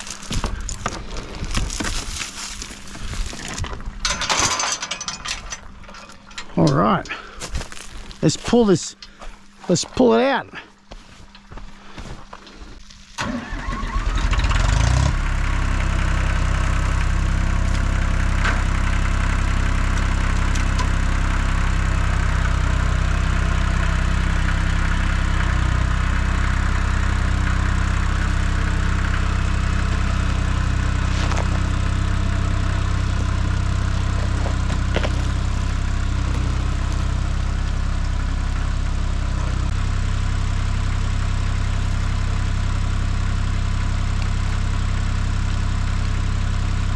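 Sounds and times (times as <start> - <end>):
tractor engine starting and running: 0.0 - 10.4, 11.1 - 46.9.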